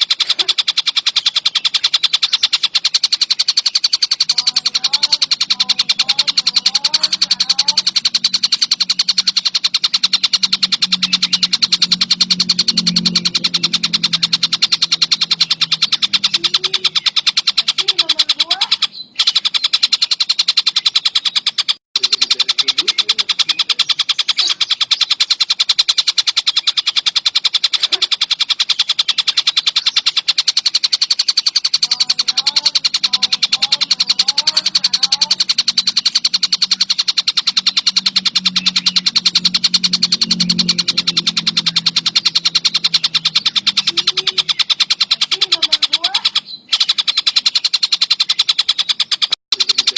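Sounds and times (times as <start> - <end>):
bird rapid chattering song: 0.0 - 49.9.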